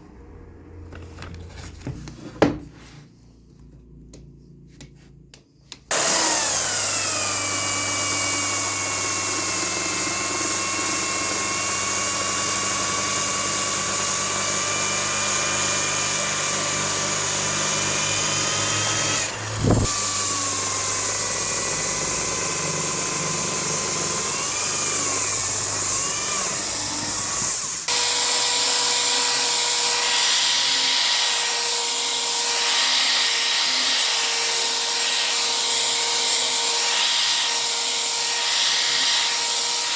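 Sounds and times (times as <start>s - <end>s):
high-pitched power tool hum: 5.9s - 39.9s
power tool motor cutting wood: 5.9s - 39.9s.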